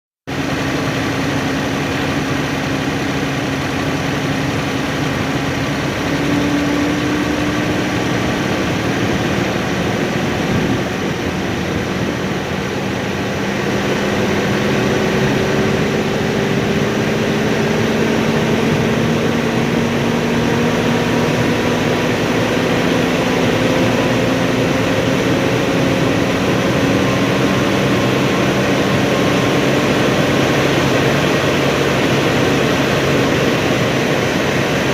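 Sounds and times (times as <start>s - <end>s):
tractor engine revving: 0.3s - 34.9s.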